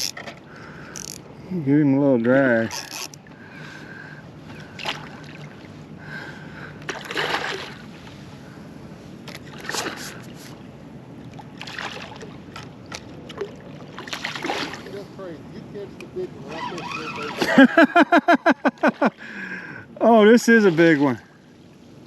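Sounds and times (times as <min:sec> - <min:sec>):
water splashing around kayak: 0:02.2 - 0:17.9, 0:20.0 - 0:22.0.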